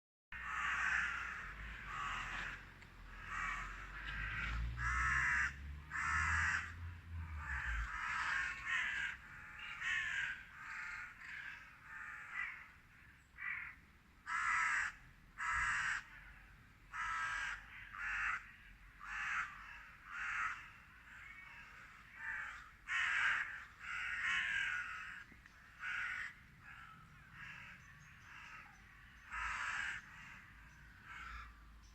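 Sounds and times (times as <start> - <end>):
crows cawing: 0.4 - 31.9.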